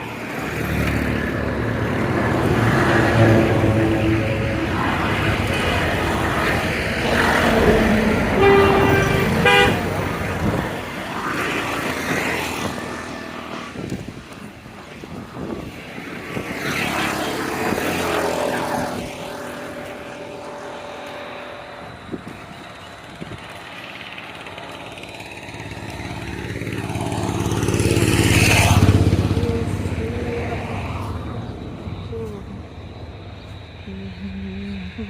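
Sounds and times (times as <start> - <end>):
vehicles passing on a road: 0.0 - 35.0.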